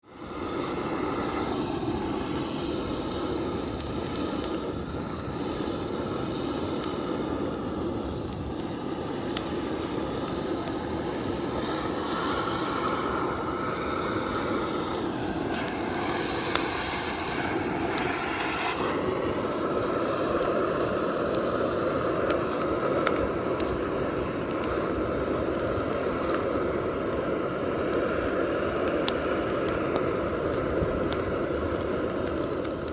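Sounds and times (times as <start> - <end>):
fire popping and crackling: 0.0 - 32.9
flames rushing: 0.0 - 32.9.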